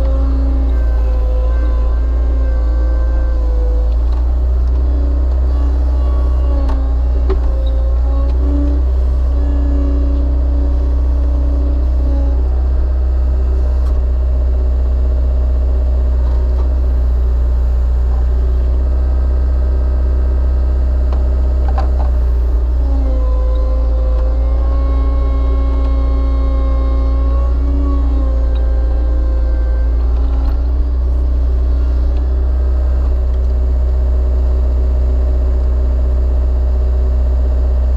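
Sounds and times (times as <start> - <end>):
high whine: 0.0 - 37.8
skid steer engine rumbling: 0.0 - 37.9.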